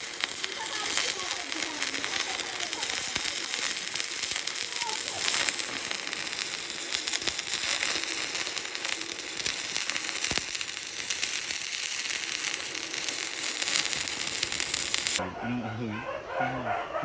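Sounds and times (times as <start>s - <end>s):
welding arc crackling: 0.0s - 15.2s.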